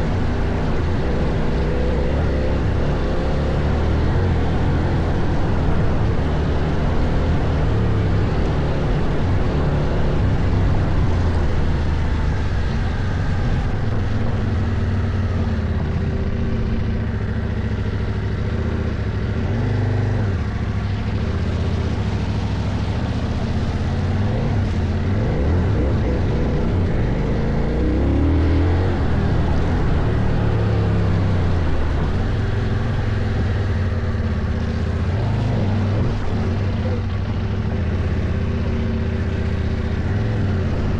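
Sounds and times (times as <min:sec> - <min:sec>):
motorcycle engine under load: 0:00.0 - 0:40.9.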